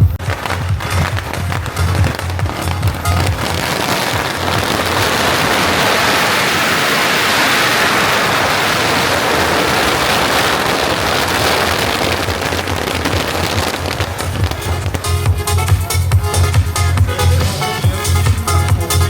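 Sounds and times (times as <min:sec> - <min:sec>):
firecrackers crackling: 0:00.0 - 0:19.0.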